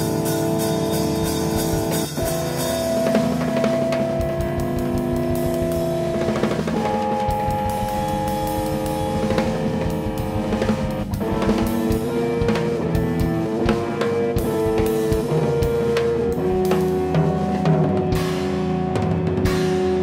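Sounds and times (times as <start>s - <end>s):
drum kit with cymbals and snare: 0.0s - 20.0s
electric guitar chords: 0.0s - 20.0s.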